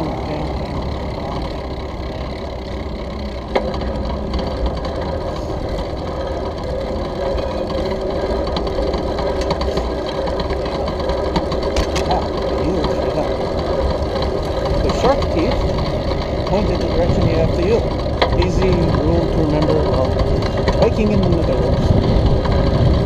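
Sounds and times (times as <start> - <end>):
bicycle rumbling over brick paving: 0.0 - 23.0
bike rattling: 0.0 - 23.0.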